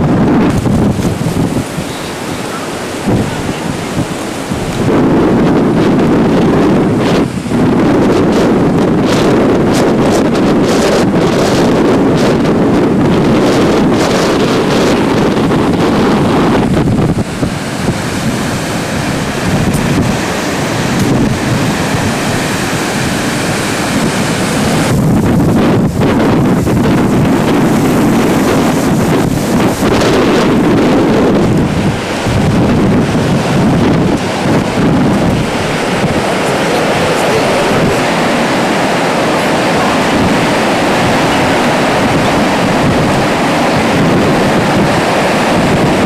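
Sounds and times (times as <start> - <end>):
waterfall roaring: 0.0 - 46.0
wind buffeting microphone: 0.0 - 46.0.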